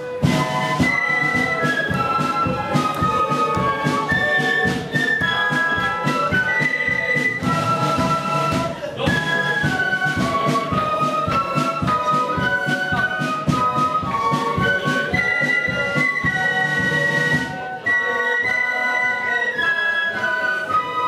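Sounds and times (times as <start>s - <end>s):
snare drum beat: 0.0s - 17.6s
flutes playing marching melody: 0.0s - 21.0s.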